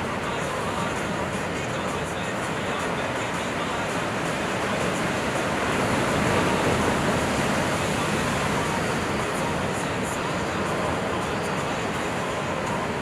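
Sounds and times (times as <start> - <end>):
ocean water rushing: 0.0 - 13.0.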